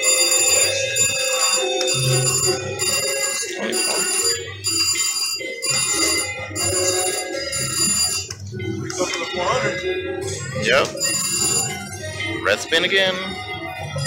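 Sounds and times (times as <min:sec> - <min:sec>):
slot machine chimes: 0:00.0 - 0:14.0.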